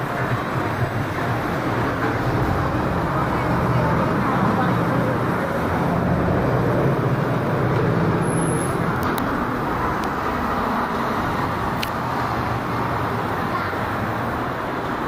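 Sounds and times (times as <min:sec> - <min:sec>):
low engine hum: 0:00.0 - 0:13.4
traffic passing: 0:00.0 - 0:15.0.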